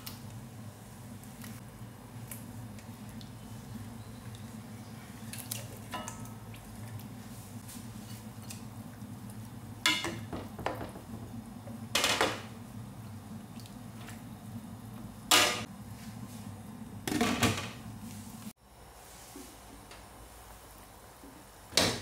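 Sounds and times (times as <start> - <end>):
steady low hum: 0.0 - 21.7.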